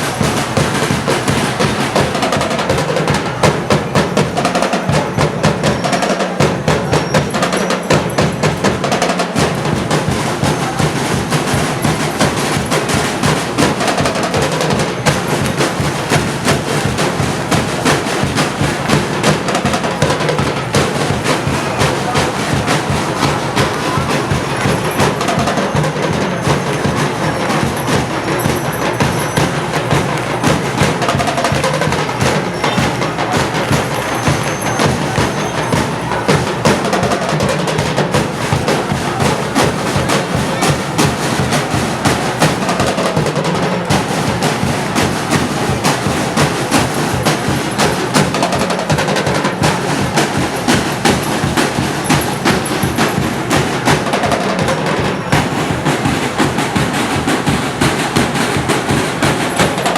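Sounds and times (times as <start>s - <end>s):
percussion ensemble drumming: 0.0s - 59.9s.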